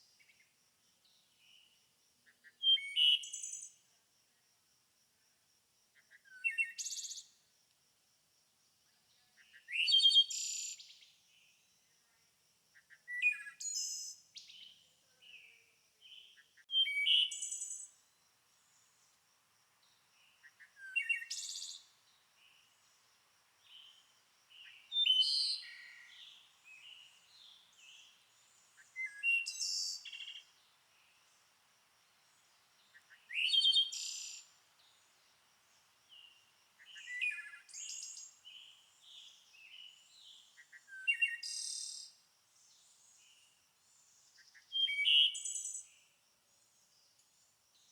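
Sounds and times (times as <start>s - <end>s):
songbird singing: 0.0s - 3.9s, 5.9s - 7.4s, 8.9s - 47.9s.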